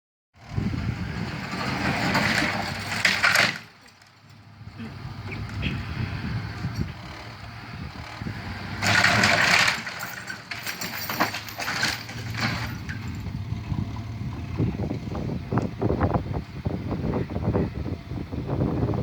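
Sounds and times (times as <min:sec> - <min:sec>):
truck engine running: 0:00.4 - 0:19.0.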